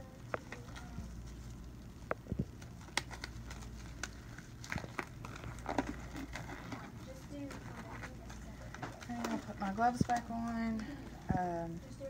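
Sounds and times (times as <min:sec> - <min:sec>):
rubber gloves rustling and snapping: 0:00.3 - 0:10.6.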